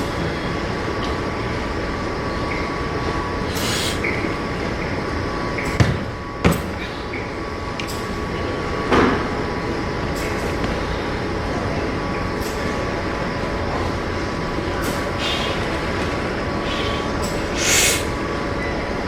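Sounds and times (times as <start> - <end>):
gym background rumble: 0.0 - 18.9.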